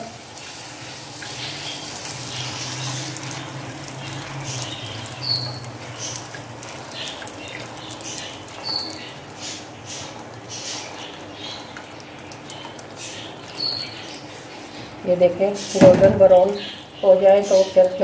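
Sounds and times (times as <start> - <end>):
deep-frying sizzle and crackle: 0.0 - 18.0.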